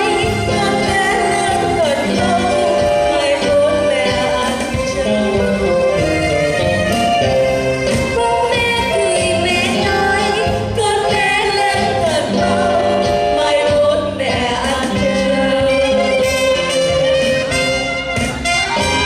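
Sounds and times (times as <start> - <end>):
instrumental backing music: 0.0 - 19.0.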